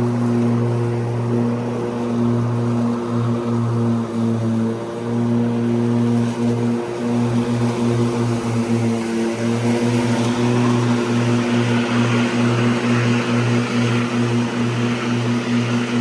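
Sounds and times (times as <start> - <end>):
electric mower motor hum: 0.0 - 16.0.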